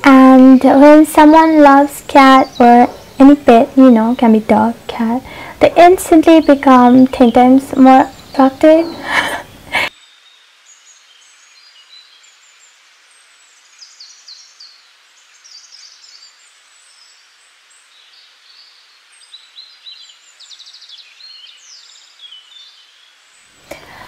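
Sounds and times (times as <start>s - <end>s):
small birds chirping: 0.0s - 24.0s
steady hiss: 0.0s - 24.0s.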